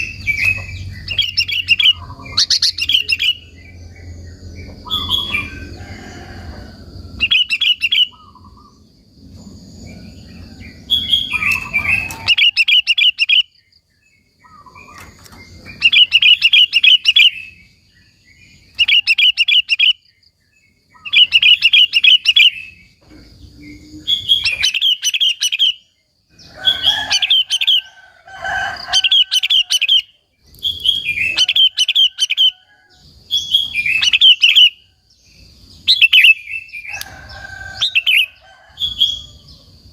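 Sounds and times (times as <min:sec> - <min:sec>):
bird singing trilling phrases: 0:00.0 - 0:06.4, 0:07.1 - 0:39.7.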